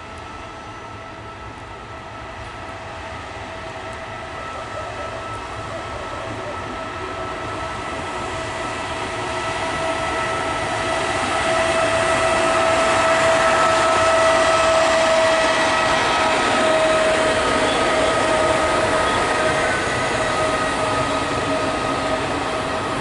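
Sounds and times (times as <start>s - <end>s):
locomotive whine: 0.0s - 23.0s
train rumble: 0.0s - 23.0s.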